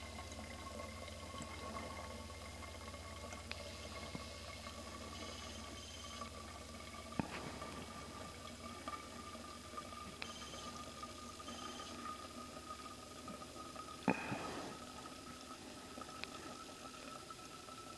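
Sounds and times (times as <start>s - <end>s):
water trickling and dripping: 0.0s - 17.9s.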